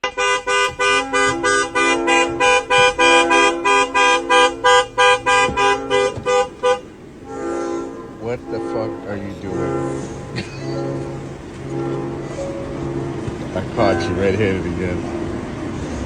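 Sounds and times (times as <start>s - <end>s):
clipped horn-like tune: 0.0s - 16.0s.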